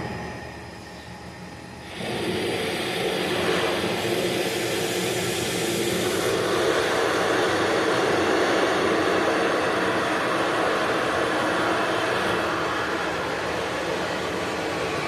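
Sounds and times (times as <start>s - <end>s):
lathe cutting noise: 1.8s - 15.0s.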